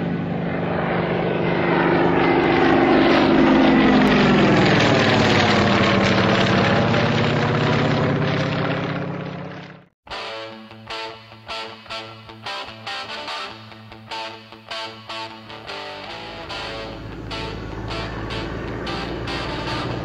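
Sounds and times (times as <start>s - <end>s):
propeller plane flying past: 0.0s - 10.0s, 13.0s - 20.0s.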